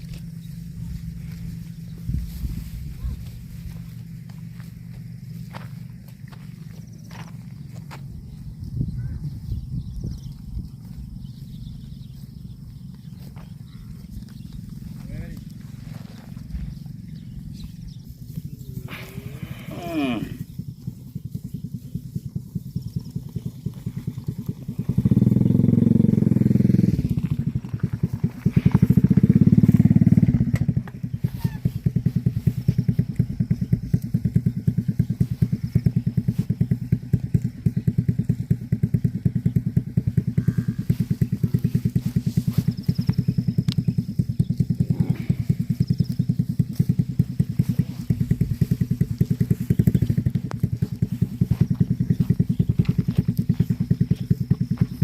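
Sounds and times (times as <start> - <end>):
engine running with rapid pulsing: 0.0 - 55.0.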